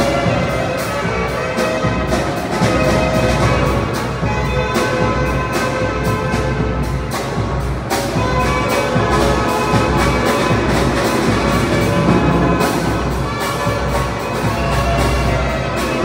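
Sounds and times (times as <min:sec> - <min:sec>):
bass drum and snare beat: 0:00.0 - 0:16.0
brass band playing: 0:00.0 - 0:16.0.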